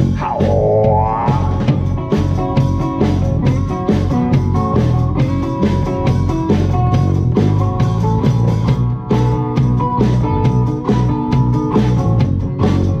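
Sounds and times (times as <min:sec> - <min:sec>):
live blues band playing: 0:00.0 - 0:13.0.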